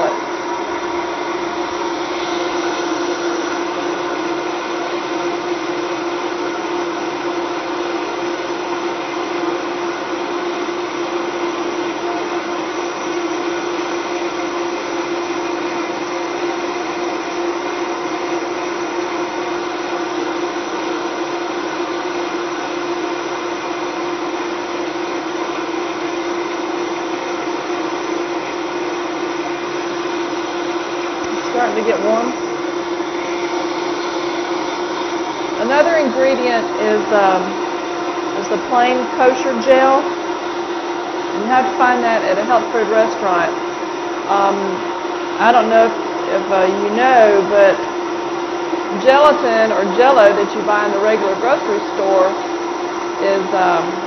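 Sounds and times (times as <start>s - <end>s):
blender motor whine: 0.0s - 54.0s.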